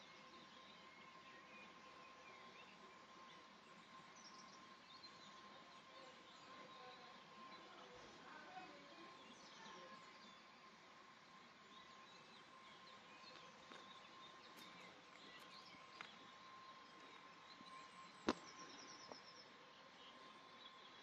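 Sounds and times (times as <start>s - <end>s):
faint bird chirps: 0.0s - 21.0s
faint steady tone: 0.0s - 21.0s.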